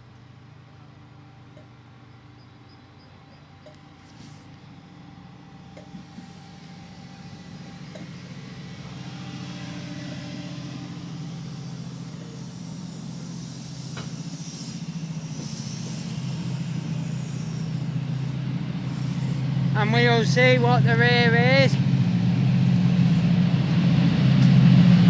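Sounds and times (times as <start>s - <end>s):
diesel locomotive engine: 0.0s - 25.0s.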